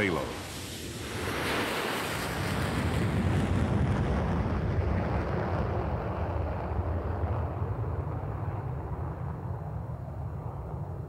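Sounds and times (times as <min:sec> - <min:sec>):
jet engines rumbling past: 0:00.0 - 0:11.0.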